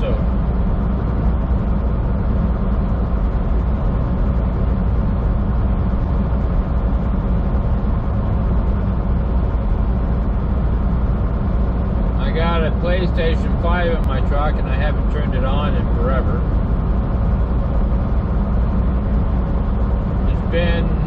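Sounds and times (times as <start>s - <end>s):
diesel truck engine drone: 0.0s - 21.0s
road noise: 0.0s - 21.0s.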